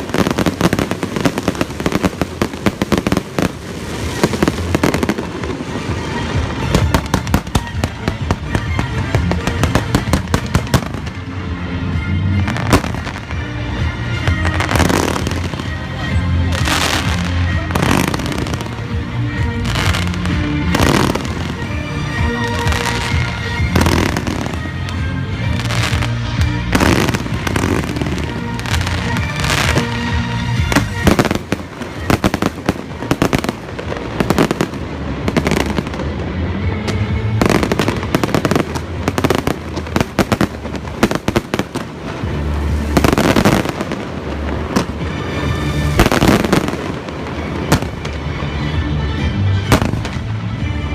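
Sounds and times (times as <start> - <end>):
fireworks bursts and booms: 0.0 - 50.6
fireworks crackling: 0.0 - 50.9
music playing: 0.0 - 50.9.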